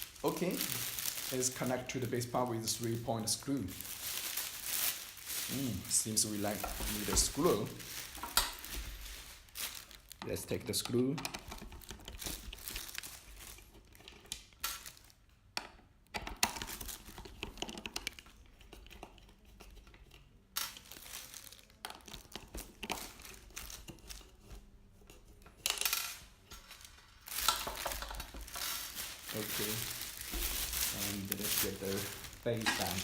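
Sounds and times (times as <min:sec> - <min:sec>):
packaging rustling and crinkling: 0:00.0 - 0:15.3, 0:16.4 - 0:33.0.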